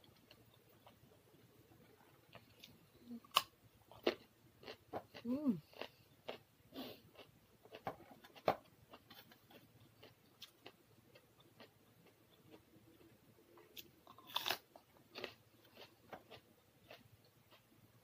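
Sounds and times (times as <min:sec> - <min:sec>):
crunchy chewing: 0:00.0 - 0:17.8.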